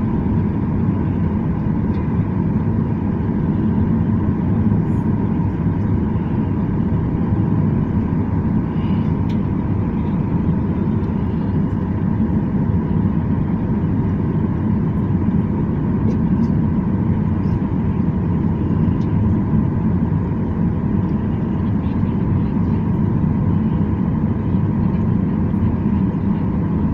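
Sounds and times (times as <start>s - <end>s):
faint steady hum: 0.0s - 26.9s
jet engines rumbling in cabin: 0.0s - 26.9s.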